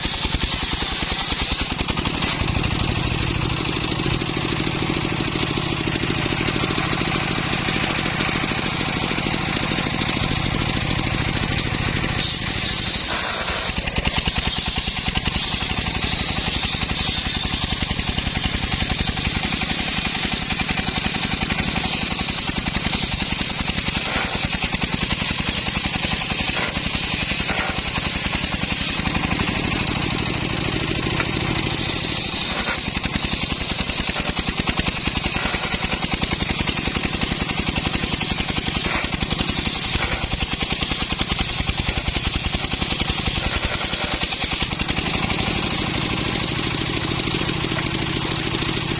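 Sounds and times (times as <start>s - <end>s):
sawmill engine chugging: 0.0s - 48.9s.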